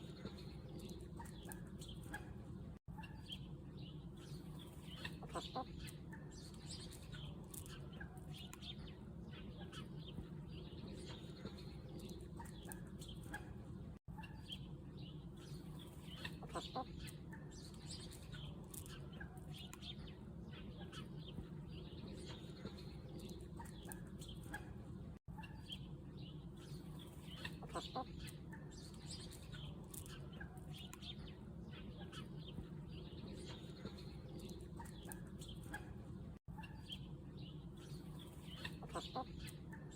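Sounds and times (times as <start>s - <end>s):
chickens clucking: 0.0s - 3.5s, 4.5s - 8.7s, 9.4s - 14.7s, 15.4s - 19.9s, 20.5s - 25.9s, 26.6s - 31.1s, 31.7s - 37.1s, 37.8s - 39.9s.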